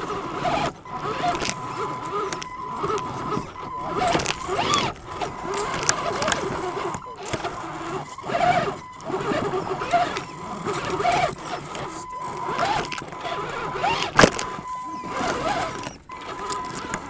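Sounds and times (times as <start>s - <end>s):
rattling and scraping: 0.0s - 17.0s
toy truck drivetrain whine: 0.0s - 17.0s.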